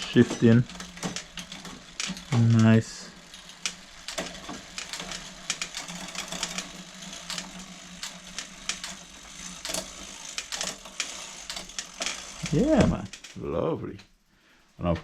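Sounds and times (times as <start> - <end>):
bicycle chain clicking over cassette: 0.0 - 14.2.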